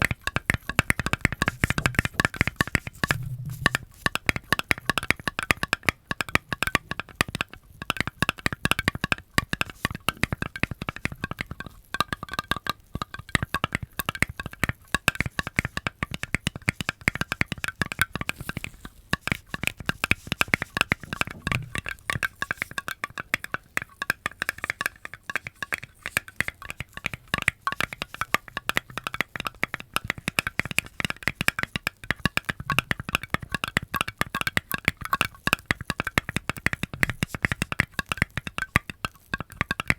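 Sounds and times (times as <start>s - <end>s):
rapid crackling clicks and taps: 0.0s - 39.9s.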